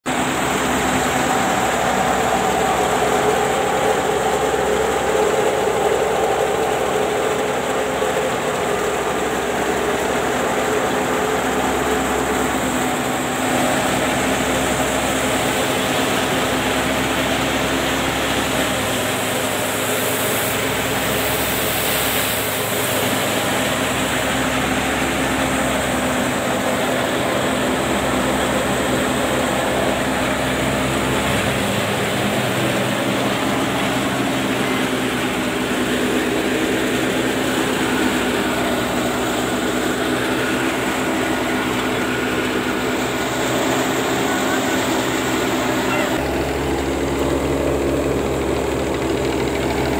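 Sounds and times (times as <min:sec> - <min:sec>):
threshing machine droning: 0:00.0 - 0:49.9.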